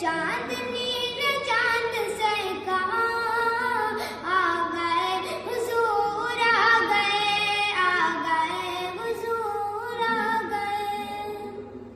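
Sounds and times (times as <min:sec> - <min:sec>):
person singing devotional song: 0:00.0 - 0:11.7.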